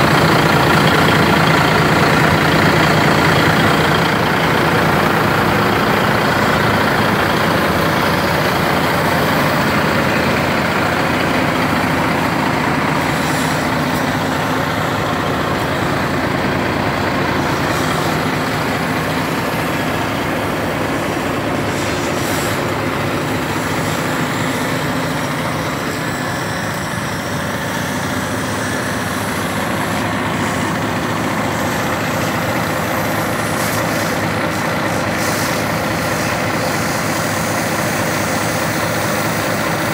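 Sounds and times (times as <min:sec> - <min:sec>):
diesel truck idling: 0:00.0 - 0:39.9.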